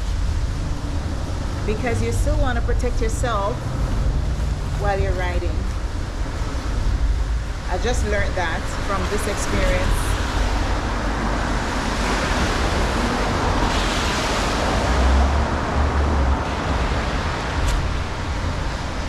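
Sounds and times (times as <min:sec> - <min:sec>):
highway traffic passing: 0:00.0 - 0:19.0
vehicle passing by: 0:00.6 - 0:07.2, 0:08.0 - 0:19.0.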